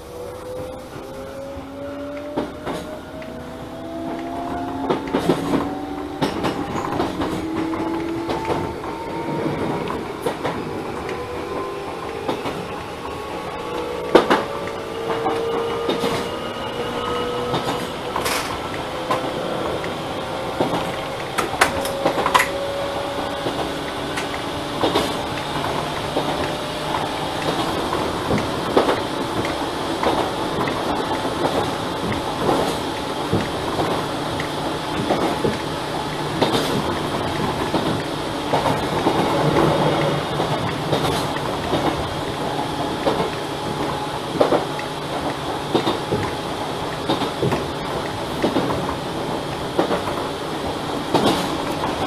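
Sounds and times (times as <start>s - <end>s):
wheels clacking over track: 4.1s - 52.0s.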